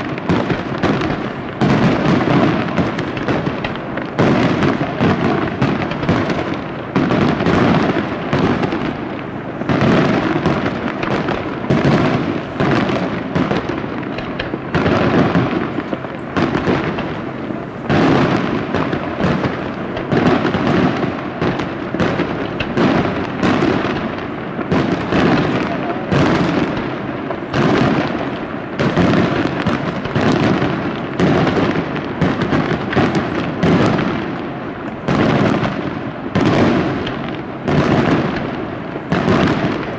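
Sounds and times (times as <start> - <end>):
fireworks shell bursts: 0.0 - 34.1
fireworks crackle: 0.0 - 39.9.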